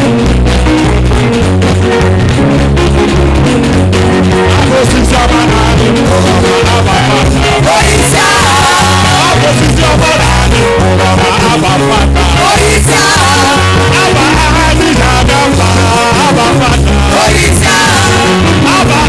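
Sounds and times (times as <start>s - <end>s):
upbeat band music: 0.0s - 19.0s.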